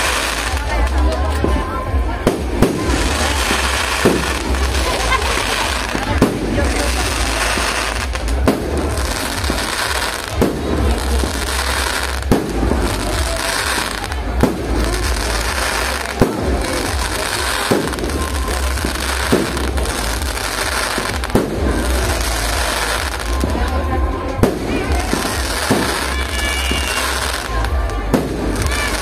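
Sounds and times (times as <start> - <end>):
steady din of noise: 0.0 - 29.0.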